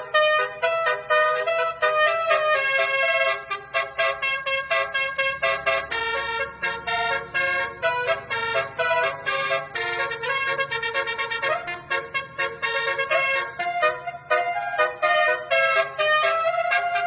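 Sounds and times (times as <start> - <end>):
multi-tone bus horn melody: 0.0 - 17.0.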